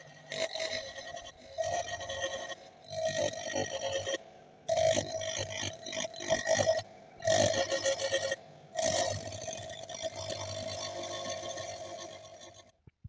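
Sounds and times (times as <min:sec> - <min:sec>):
bench grinder grinding steel: 0:00.0 - 0:12.7.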